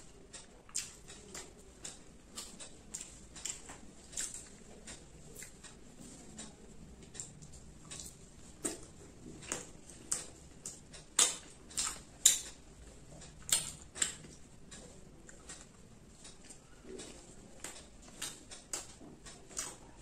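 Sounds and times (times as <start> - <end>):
sticky clicks and crackles of eating: 0.0 - 20.0.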